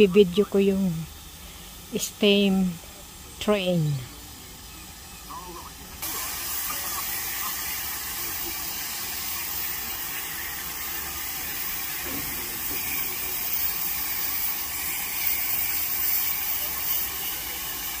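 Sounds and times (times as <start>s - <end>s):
steam locomotive blowing off steam: 0.0s - 18.0s.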